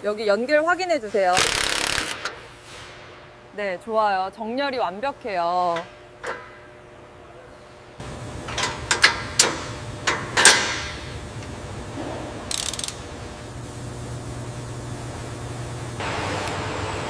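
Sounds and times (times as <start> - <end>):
machinery low hum: 2.5 - 17.0.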